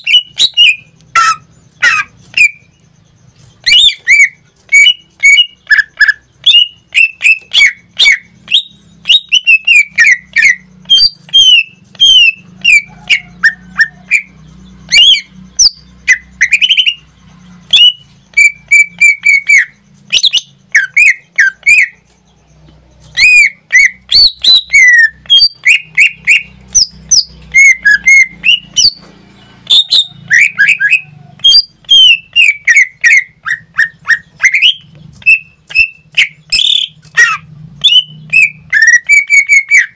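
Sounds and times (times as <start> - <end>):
bird whistles and chirps: 0.0 - 39.9.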